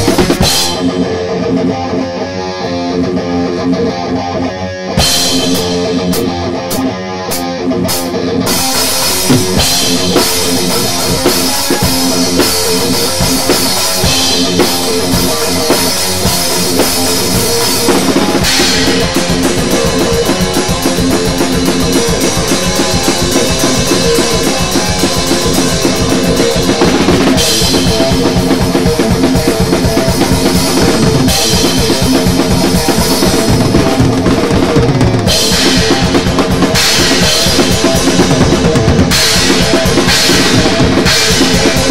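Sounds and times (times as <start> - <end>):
fast drum beat: 0.0 - 1.0, 5.0 - 41.9
electric guitar riffing: 0.0 - 41.9.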